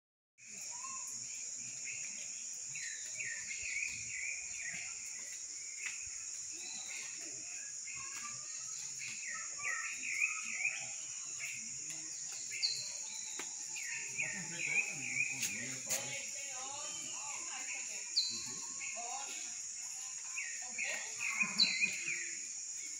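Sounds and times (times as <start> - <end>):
high-pitched insect drone: 0.4 - 22.9.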